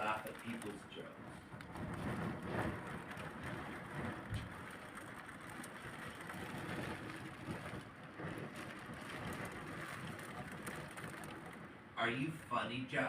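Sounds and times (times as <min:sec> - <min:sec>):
heavy rain: 0:00.0 - 0:12.6
storm wind: 0:00.0 - 0:13.0.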